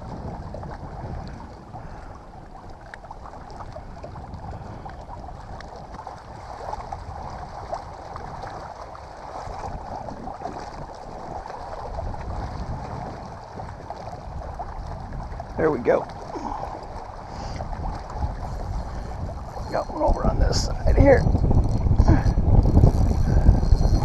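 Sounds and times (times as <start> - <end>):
water splashing against kayak hull: 0.0 - 24.0.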